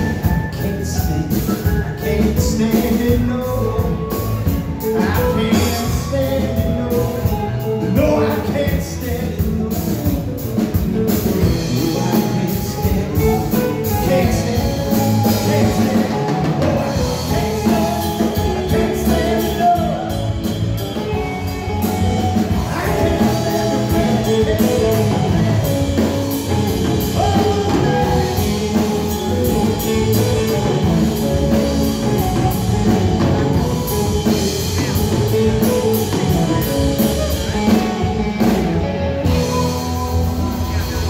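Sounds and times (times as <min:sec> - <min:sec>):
live rock band: 0:00.0 - 0:41.0.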